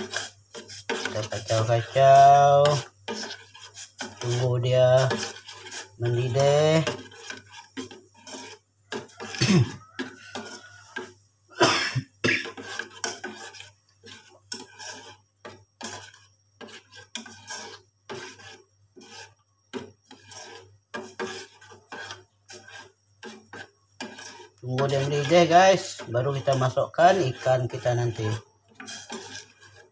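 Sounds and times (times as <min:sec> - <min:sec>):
spoon scraping a metal pot: 0:00.0 - 0:29.9.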